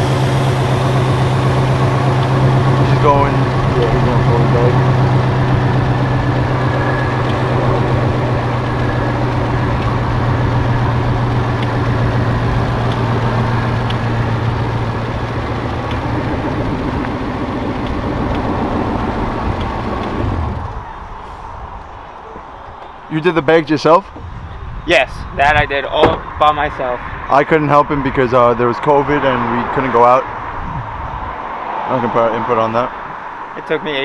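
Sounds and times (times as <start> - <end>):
car engine running low hum: 0.0 - 23.1, 24.0 - 34.0.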